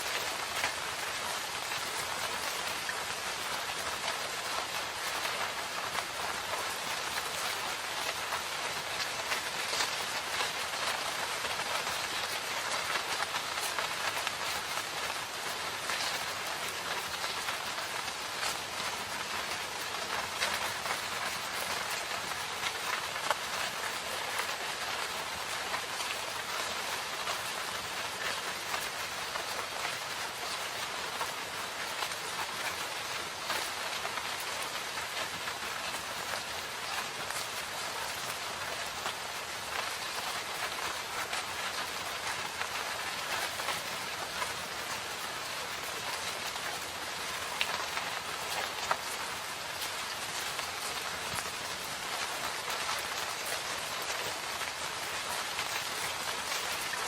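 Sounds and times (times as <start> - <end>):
raindrops pattering on surfaces: 0.0 - 57.0
steady rain hiss: 0.0 - 57.0.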